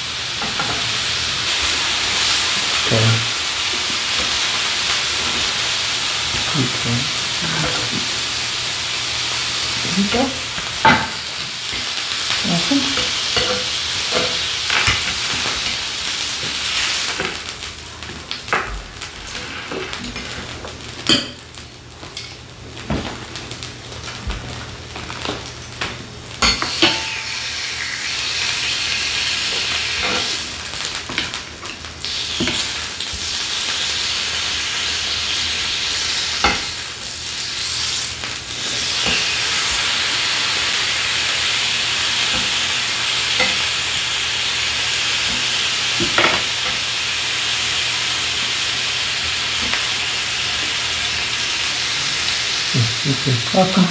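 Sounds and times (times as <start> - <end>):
beef sizzling on a grill pan: 0.0 - 53.9.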